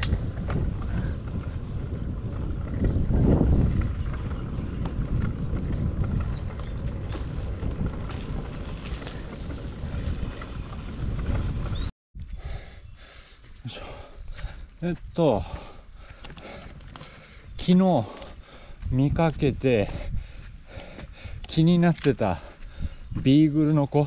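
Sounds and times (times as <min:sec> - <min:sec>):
bicycle ticks and rattles: 0:00.0 - 0:11.9, 0:15.2 - 0:24.0
wind buffeting microphone: 0:00.0 - 0:24.0.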